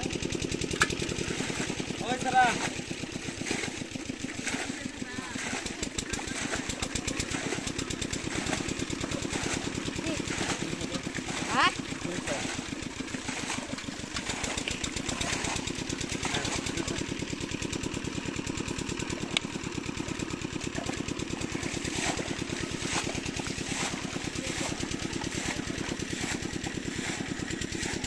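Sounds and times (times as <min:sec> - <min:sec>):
small engine pulsing: 0:00.0 - 0:28.0.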